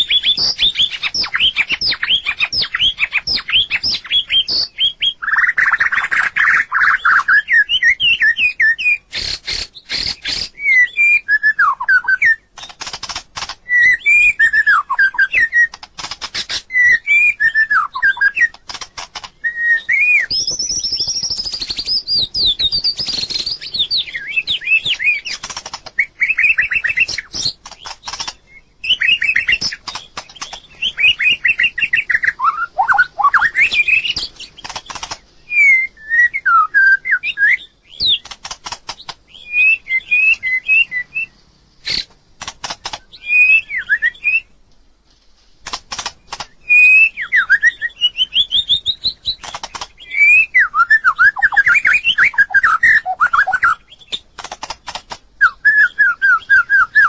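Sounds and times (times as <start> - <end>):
sharp bird clicks: 0.0 - 11.1, 12.2 - 35.8, 36.5 - 44.4, 45.6 - 57.0
bird singing whistled phrases: 0.0 - 12.7, 13.6 - 15.8, 16.5 - 18.6, 19.4 - 25.4, 26.0 - 29.9, 30.6 - 34.6, 35.4 - 38.2, 39.3 - 42.1, 43.1 - 44.5, 46.6 - 49.4, 50.0 - 54.2, 55.4 - 57.0.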